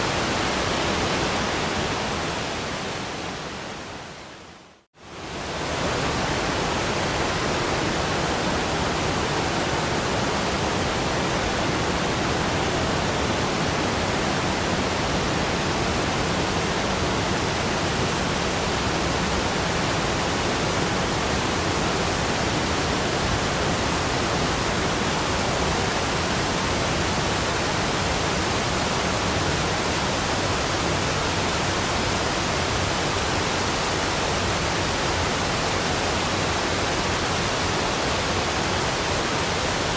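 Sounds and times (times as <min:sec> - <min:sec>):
waterfall rushing: 0:05.1 - 0:39.9.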